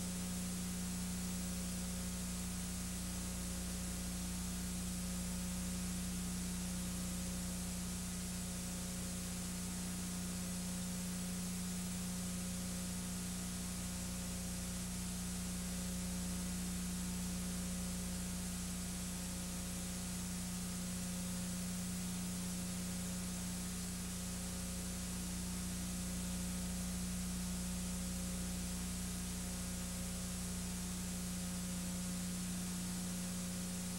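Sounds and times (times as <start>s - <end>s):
low electrical hum: 0.0s - 33.9s.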